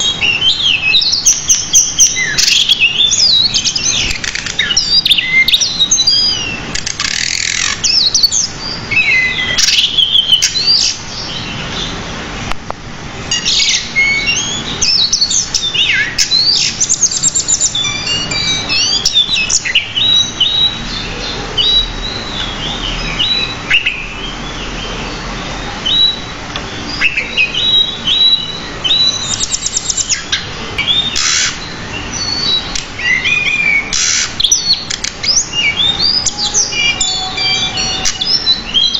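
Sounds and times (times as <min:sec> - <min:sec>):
bird singing chirps and trills: 0:00.0 - 0:12.5, 0:13.2 - 0:38.9.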